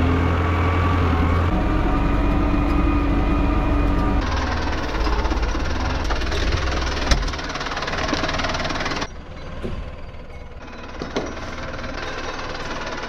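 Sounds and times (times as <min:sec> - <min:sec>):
engine running with rapid pulsing: 0:00.0 - 0:09.2, 0:10.5 - 0:13.0.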